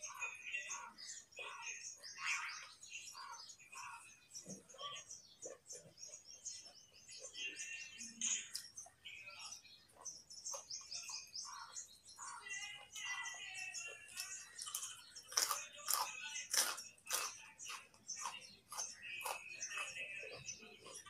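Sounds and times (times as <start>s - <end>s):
birds chirping: 0.0s - 21.0s
carrot crunching chewing: 2.2s - 21.0s.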